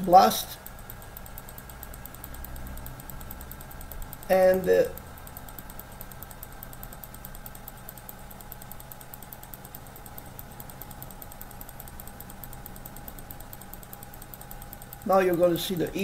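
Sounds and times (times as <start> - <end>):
electrical hum and hiss: 0.0 - 16.0
faint fast ticking: 0.0 - 16.0.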